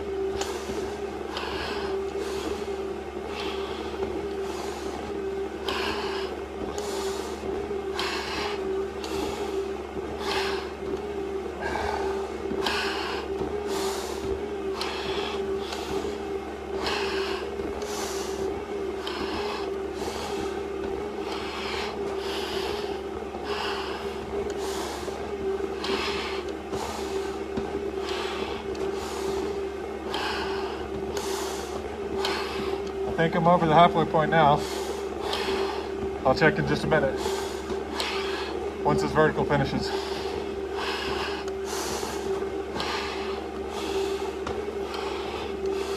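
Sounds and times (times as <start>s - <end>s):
steady hum: 0.0s - 45.9s
breathing through a face mask: 0.4s - 33.1s, 34.6s - 36.1s, 37.1s - 38.8s, 39.9s - 45.9s.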